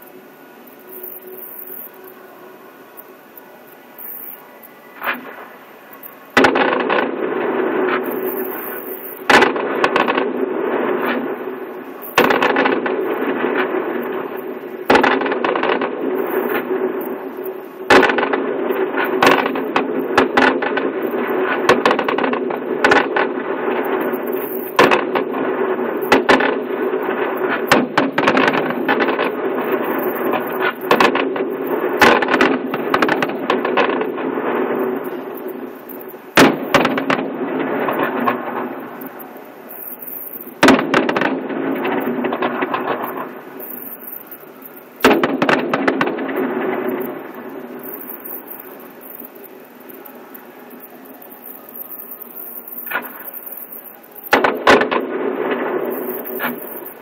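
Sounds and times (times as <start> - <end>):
fireworks booming: 0.0 - 57.0
fireworks crackling: 0.0 - 57.0.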